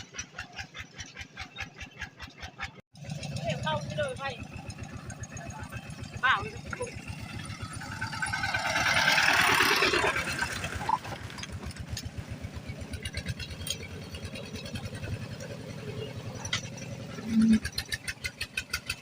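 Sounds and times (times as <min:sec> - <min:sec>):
small engine running fast: 0:00.0 - 0:19.0.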